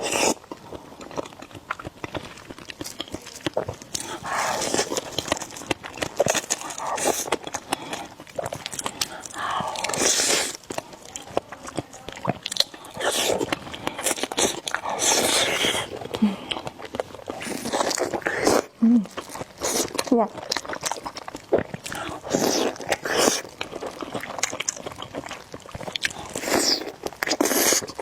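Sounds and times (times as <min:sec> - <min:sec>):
person chewing noodles: 0:00.0 - 0:28.0.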